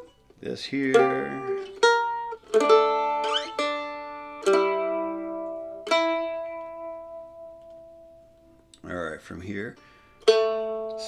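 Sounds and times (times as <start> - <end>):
mandolin plucked notes: 0.0 - 11.0.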